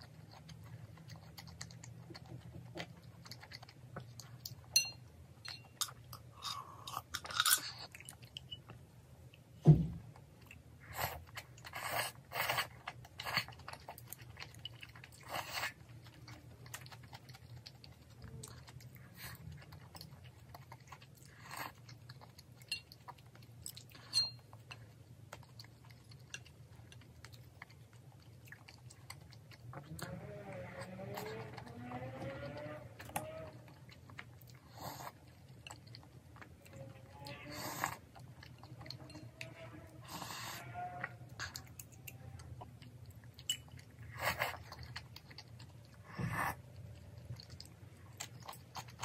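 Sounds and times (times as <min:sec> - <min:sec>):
person chewing crunchy food: 0:00.0 - 0:09.4, 0:10.0 - 0:49.0
low steady hum: 0:00.0 - 0:49.0.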